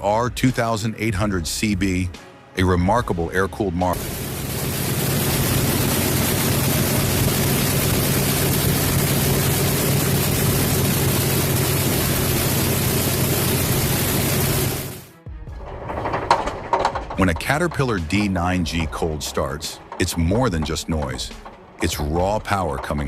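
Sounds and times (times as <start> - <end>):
radial aircraft engine running: 3.9 - 23.0.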